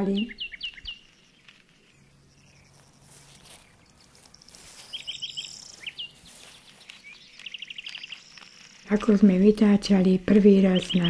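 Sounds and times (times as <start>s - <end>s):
faint low hum: 0.0s - 11.0s
small birds chirping: 0.0s - 11.0s.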